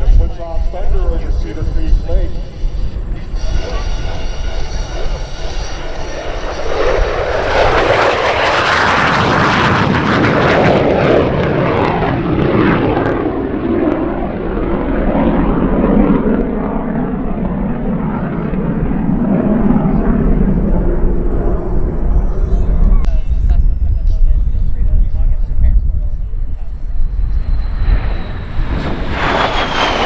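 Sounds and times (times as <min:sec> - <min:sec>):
jet passing in flyby: 0:00.0 - 0:30.0.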